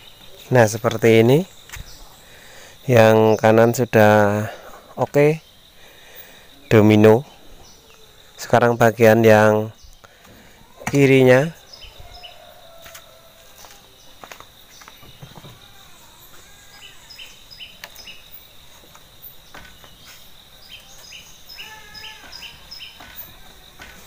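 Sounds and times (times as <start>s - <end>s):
birds chirping: 0.0s - 24.0s
high insect drone: 0.0s - 24.0s.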